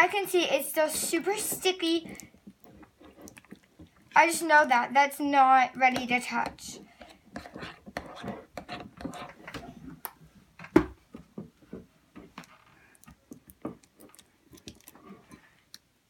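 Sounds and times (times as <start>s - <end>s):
slime being stirred in a bowl: 0.0s - 10.2s, 11.4s - 15.8s.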